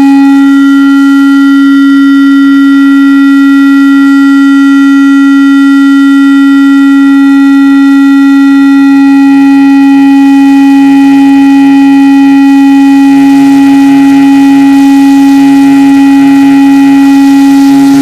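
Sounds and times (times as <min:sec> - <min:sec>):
electronic drone: 0:00.0 - 0:18.0.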